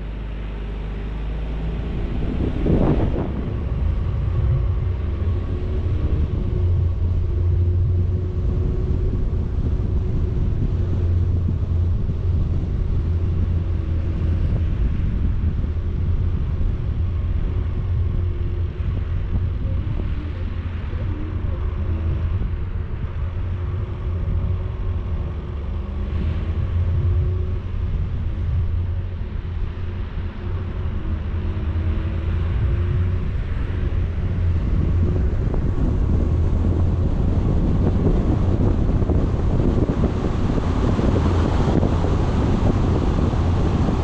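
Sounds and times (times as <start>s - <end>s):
road rumble: 0.0s - 44.0s
vehicle engine running: 0.0s - 44.0s
wind noise on microphone: 0.0s - 44.0s.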